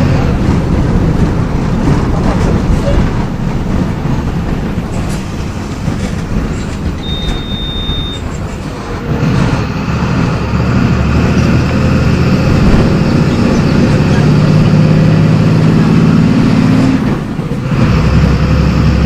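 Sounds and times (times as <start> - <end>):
bus diesel engine pulling: 0.0 - 19.0.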